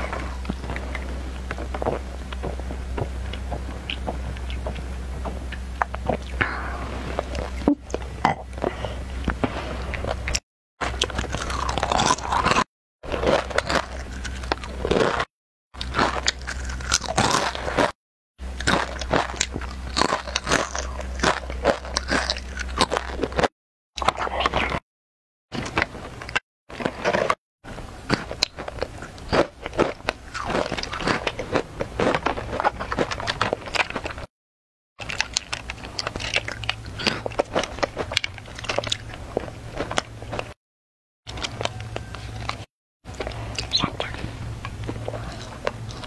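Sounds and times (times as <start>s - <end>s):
crunchy chewing of snacks: 0.0s - 24.8s, 25.6s - 34.3s, 35.0s - 40.6s, 41.3s - 46.0s.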